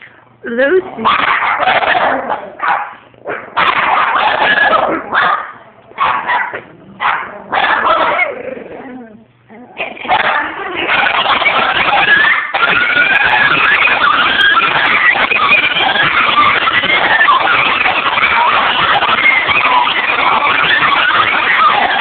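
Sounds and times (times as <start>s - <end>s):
dogs howling: 1.0s - 22.0s.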